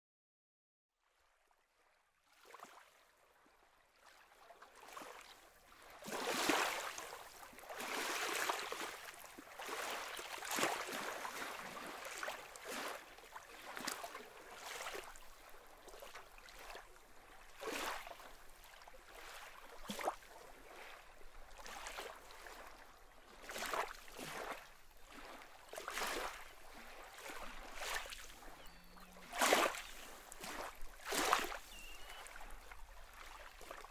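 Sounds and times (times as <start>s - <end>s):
waves breaking on shore: 4.7s - 33.9s.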